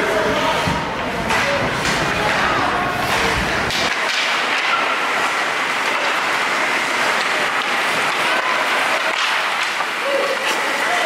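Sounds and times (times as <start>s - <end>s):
hockey sticks and puck clicking: 1.1s - 11.0s.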